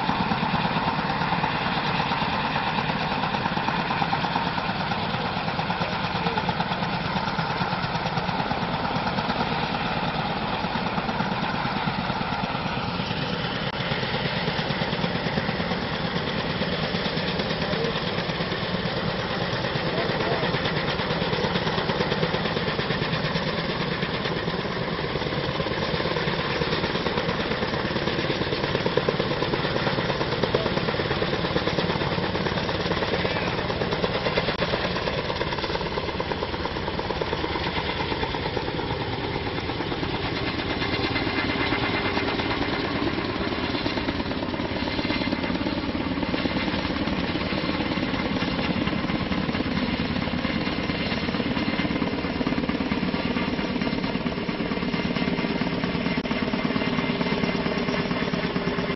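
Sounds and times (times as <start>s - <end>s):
helicopter rotors beating: 0.0s - 58.9s
turbine engine: 0.0s - 58.9s.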